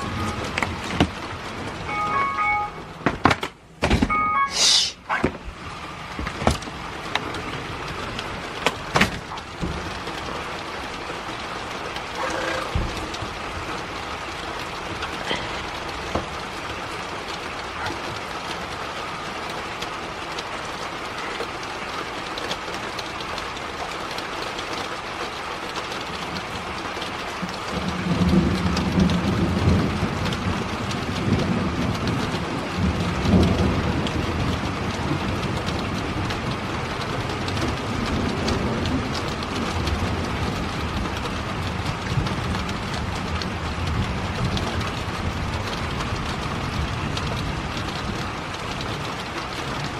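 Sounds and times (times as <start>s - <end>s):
thunder rumbling: 0.0s - 3.0s, 3.8s - 19.4s, 27.4s - 49.9s
steady rain falling: 0.0s - 49.9s.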